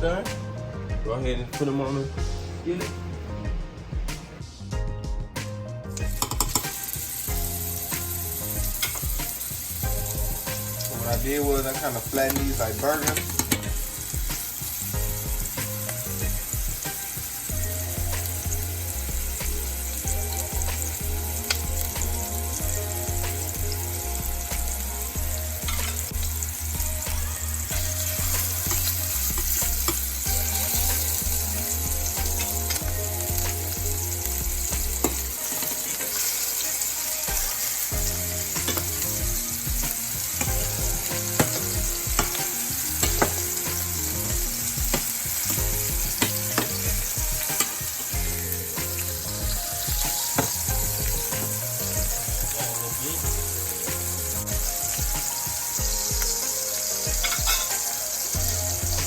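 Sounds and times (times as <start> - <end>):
meat patties sizzling in a skillet: 6.0 - 59.0.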